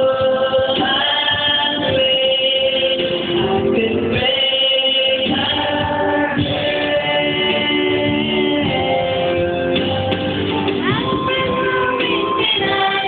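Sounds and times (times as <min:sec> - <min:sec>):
person singing into a microphone: 0:00.0 - 0:10.2, 0:10.8 - 0:13.0
backing music track: 0:00.0 - 0:13.0.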